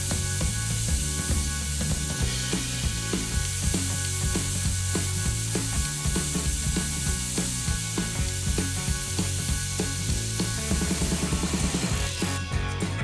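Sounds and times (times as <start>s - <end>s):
angle grinder running: 0.0s - 12.5s
drill bit clicking in guide: 0.1s - 12.4s.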